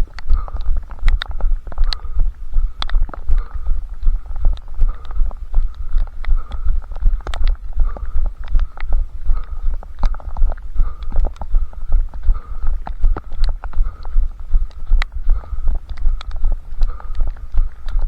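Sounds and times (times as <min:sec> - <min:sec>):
light ticks and clicks: 0:00.0 - 0:18.0.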